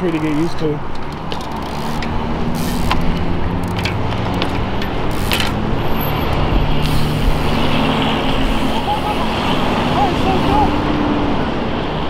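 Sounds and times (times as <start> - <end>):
cars passing: 0.0 - 12.0
vehicle engine humming: 0.0 - 12.0.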